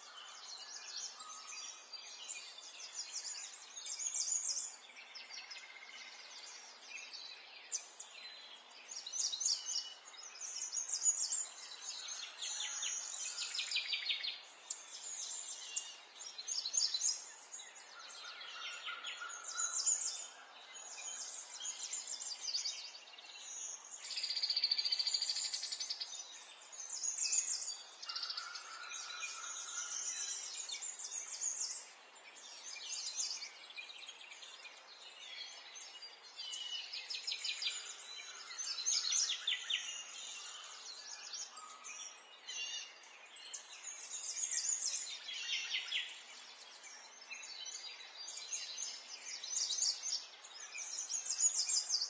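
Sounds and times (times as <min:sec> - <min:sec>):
birds chirping and trilling: 0:00.0 - 0:52.0
soft steady hiss: 0:00.0 - 0:52.0.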